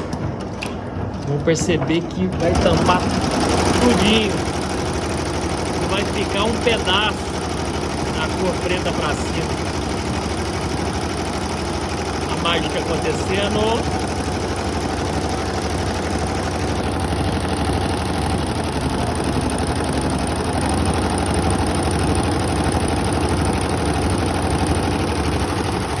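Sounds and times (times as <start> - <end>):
embroidery machine stitching: 0.0 - 26.0.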